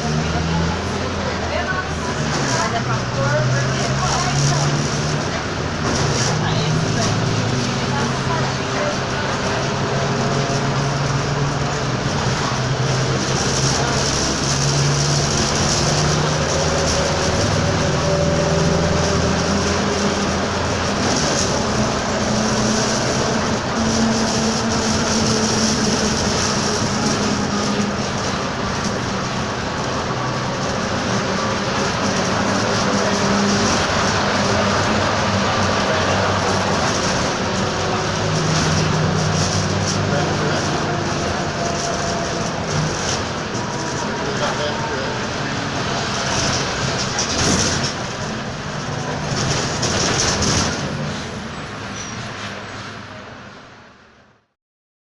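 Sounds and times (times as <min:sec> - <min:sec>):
bus drive noise: 0:00.0 - 0:54.6.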